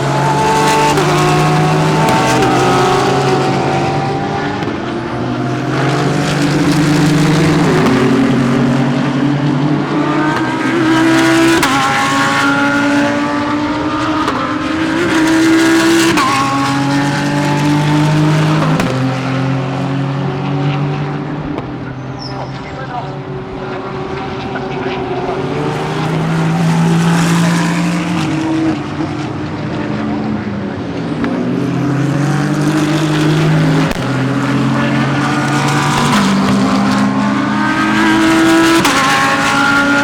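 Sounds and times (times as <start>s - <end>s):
cars passing by: 0.0s - 40.0s
race car engines: 0.0s - 40.0s.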